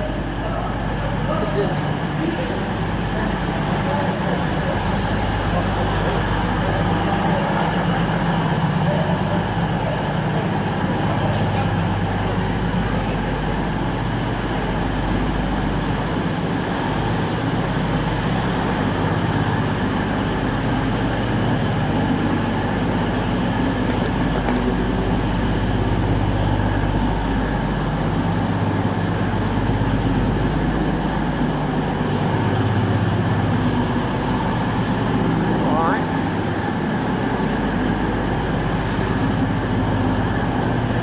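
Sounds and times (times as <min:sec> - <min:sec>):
diesel train engine idling: 0:00.0 - 0:41.0.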